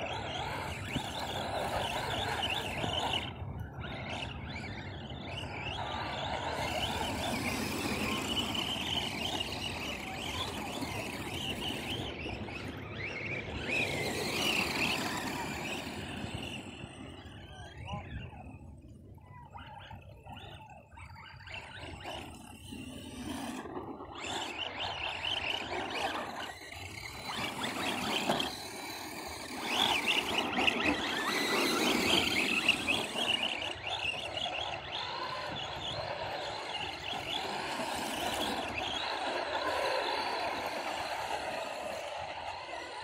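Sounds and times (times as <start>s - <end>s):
rc truck motors whining: 0.0s - 43.0s.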